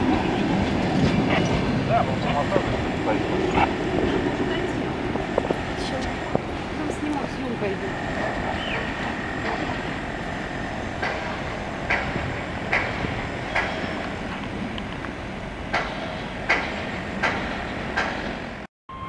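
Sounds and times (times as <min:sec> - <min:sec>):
train wheels clicking on rail joints: 0:00.0 - 0:18.6
train rumble: 0:00.0 - 0:18.7.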